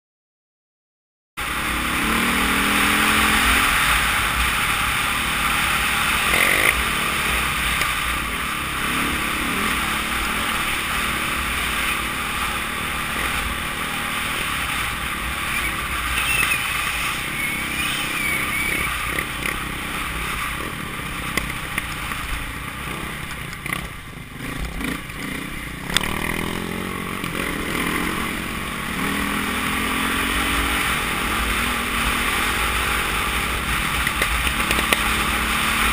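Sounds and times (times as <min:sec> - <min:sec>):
dirt bike engine running: 0:01.4 - 0:35.9
steady rushing noise: 0:01.4 - 0:35.9.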